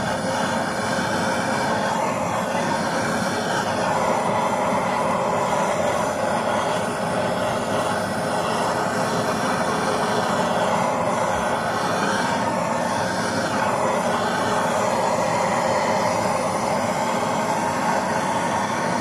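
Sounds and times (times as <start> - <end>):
blowtorch hissing: 0.0 - 19.0.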